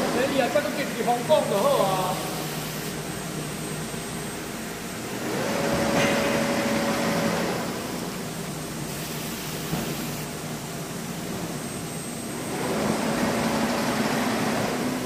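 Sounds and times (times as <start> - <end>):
machine hum and whir: 0.0 - 15.0.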